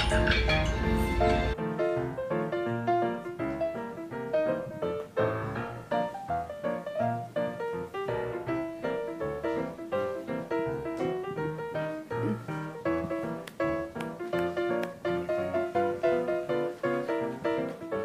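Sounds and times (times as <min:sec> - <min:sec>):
light bouncy music: 0:00.0 - 0:18.0.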